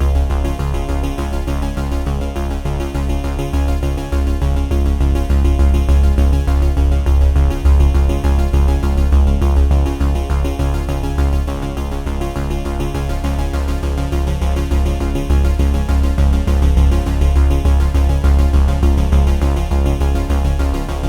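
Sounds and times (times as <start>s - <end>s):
electronic background music: 0.0s - 21.0s.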